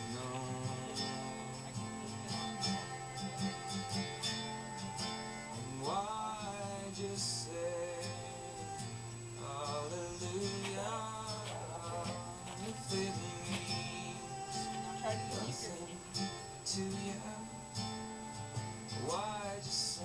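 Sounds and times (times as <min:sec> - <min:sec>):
acoustic guitar country song: 0:00.0 - 0:20.0
person singing: 0:00.0 - 0:20.0.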